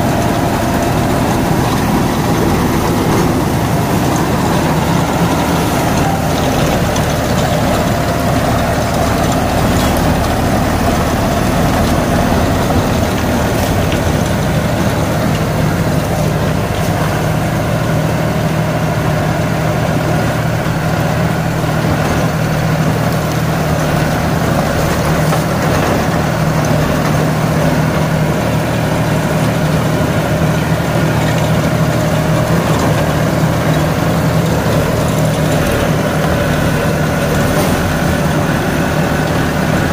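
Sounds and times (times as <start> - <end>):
rotavator mulching stalks: 0.0 - 39.9
tractor diesel engine under load: 0.0 - 39.9.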